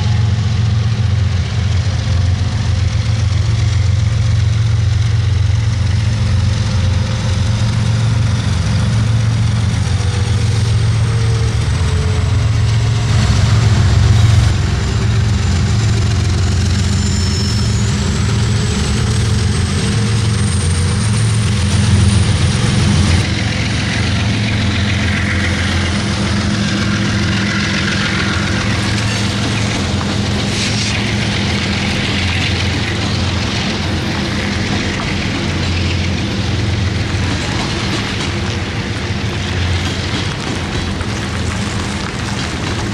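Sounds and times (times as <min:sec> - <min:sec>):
high-pitched whine: 0:00.0 - 0:42.9
locomotive engines droning: 0:00.0 - 0:42.9.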